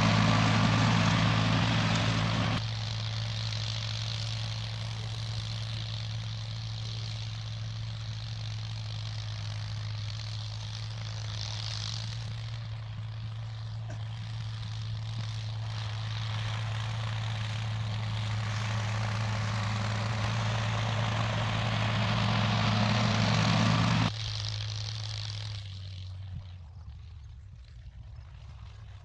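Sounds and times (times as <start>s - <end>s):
tractor engine running: 0.0s - 26.2s.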